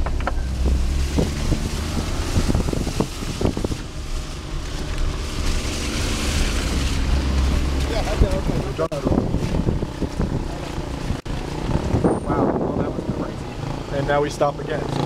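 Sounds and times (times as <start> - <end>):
car driving on dirt road: 0.0 - 15.0
car knocking and rattling over bumps: 0.0 - 15.0.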